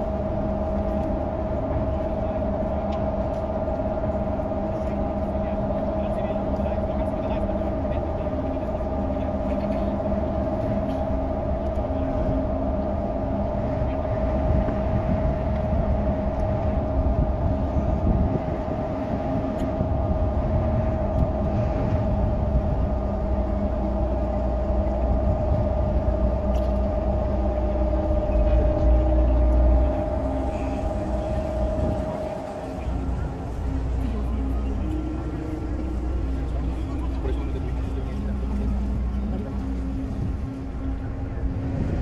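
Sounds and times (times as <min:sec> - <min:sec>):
low machinery rumble: 0:00.0 - 0:42.0
mid-pitched machinery hum: 0:00.0 - 0:42.0.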